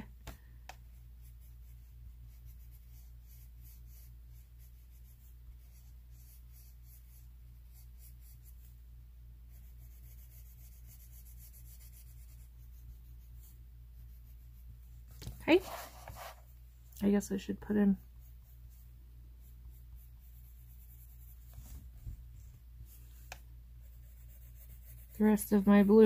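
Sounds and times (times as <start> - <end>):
steady low hum: 0.0 - 26.0
pencil scratching on paper: 0.8 - 8.8, 9.5 - 14.7, 15.3 - 16.5, 17.9 - 26.0.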